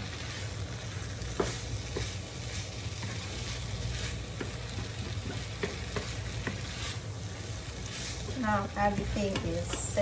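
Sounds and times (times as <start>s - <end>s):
rice sizzling in frying pan: 0.0s - 10.0s
spatula scraping pan: 0.0s - 10.0s.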